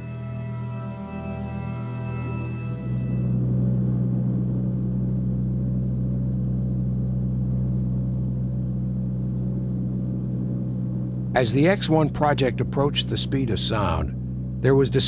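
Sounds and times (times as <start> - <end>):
low drone with rumble: 0.0 - 15.0.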